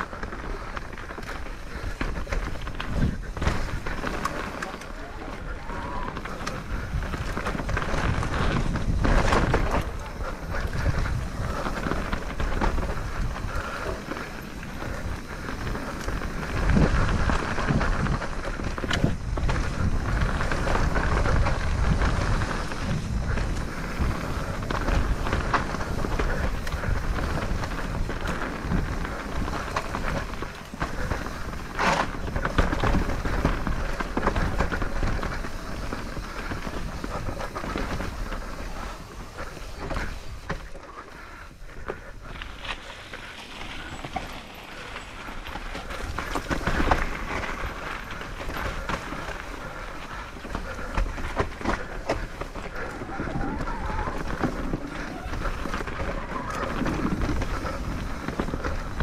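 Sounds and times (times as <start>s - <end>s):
bike rattling and knocking: 0.0s - 59.0s
tyre and wind noise: 0.0s - 59.0s.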